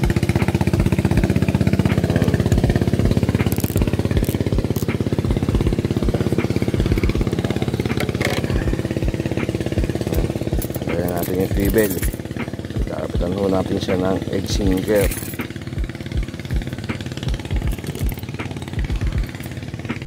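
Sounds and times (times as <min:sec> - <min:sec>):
small engine chugging: 0:00.0 - 0:20.0.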